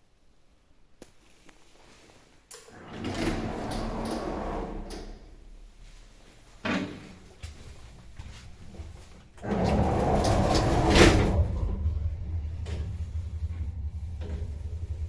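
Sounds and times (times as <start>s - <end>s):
lift doors sliding with rumble: 2.7s - 15.0s.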